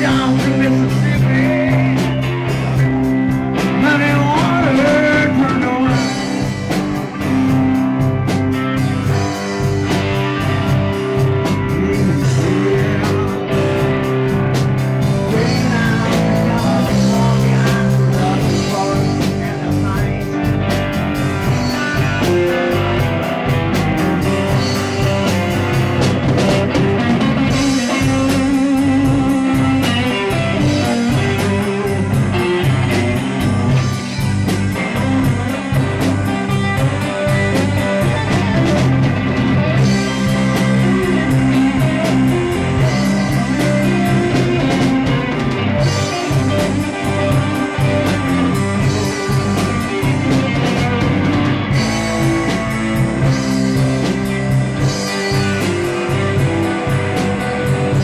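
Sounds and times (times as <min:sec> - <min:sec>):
drum beat: 0:00.0 - 0:58.0
rock band playing: 0:00.0 - 0:58.0.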